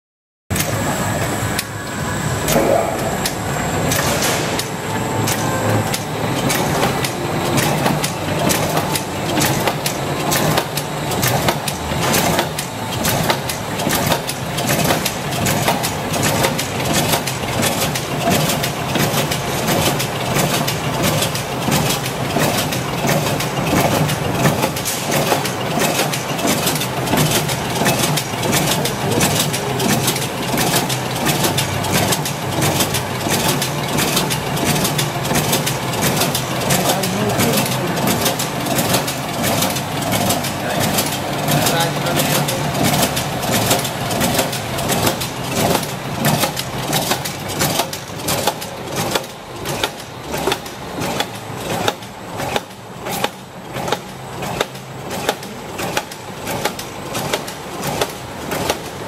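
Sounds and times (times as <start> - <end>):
machine clacking: 0.5 - 59.0
mechanical hum: 0.5 - 59.0.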